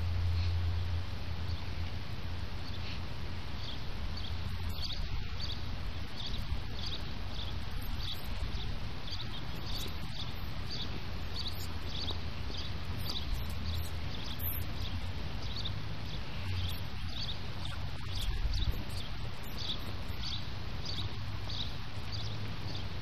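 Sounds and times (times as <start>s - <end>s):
steady low rumble: 0.0s - 23.0s
faint high chirp: 3.6s - 23.0s.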